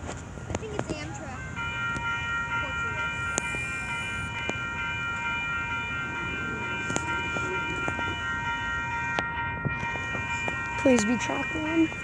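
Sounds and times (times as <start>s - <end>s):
train rumble: 0.0s - 12.0s
train horn chord: 1.3s - 12.0s.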